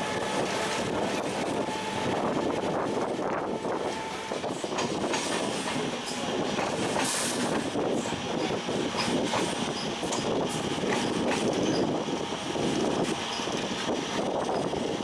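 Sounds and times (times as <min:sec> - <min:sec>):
train clicks: 0:00.0 - 0:15.0
train wheels rumbling on rail: 0:00.0 - 0:15.0.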